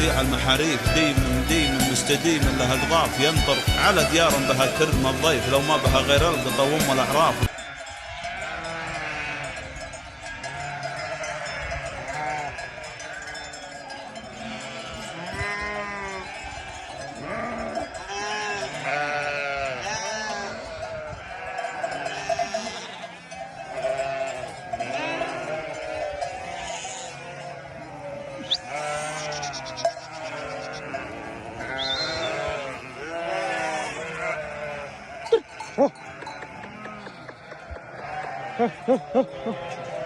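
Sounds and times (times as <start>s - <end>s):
sheep bleating: 0.0s - 40.0s.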